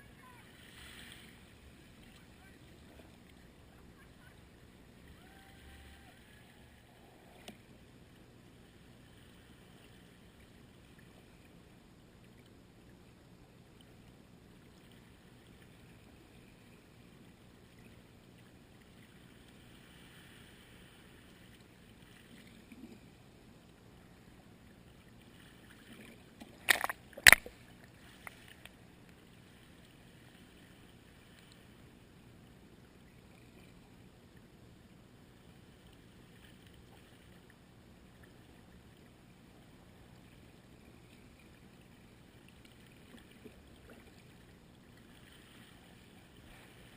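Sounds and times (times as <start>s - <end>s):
faint steady hiss: 0.0s - 46.9s.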